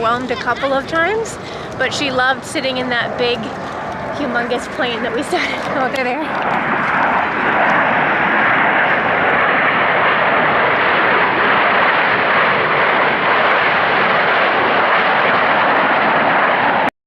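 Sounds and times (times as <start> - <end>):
jet aircraft passing overhead: 0.0 - 16.9.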